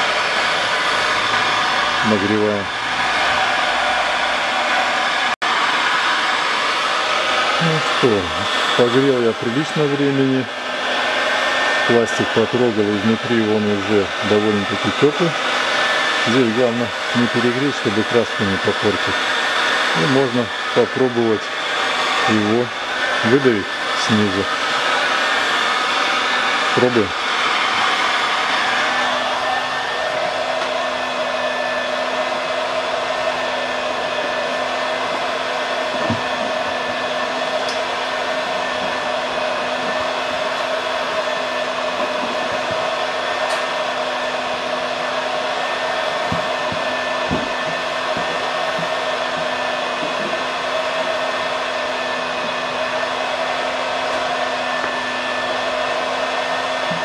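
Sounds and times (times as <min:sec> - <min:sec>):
heat gun humming: 0:00.0 - 0:57.0.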